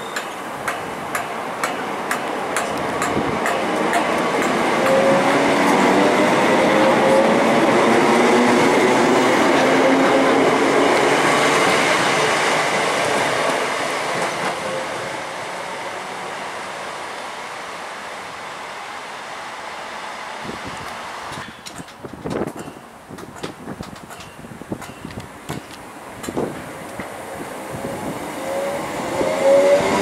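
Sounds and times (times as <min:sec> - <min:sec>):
train wheels rumbling on rails: 0:00.0 - 0:16.8, 0:19.7 - 0:30.0.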